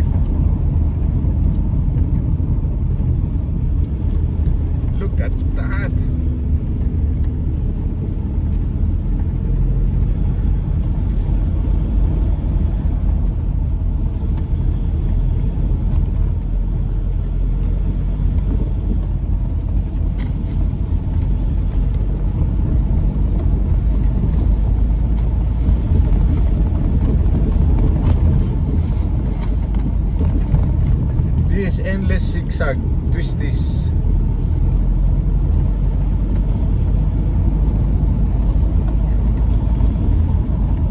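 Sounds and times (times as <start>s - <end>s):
road vehicle driving: 0.0s - 40.9s.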